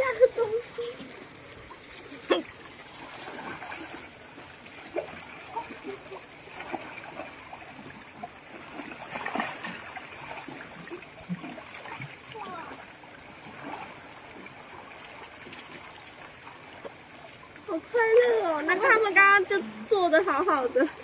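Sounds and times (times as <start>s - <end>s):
pool water splashing: 0.0s - 21.0s.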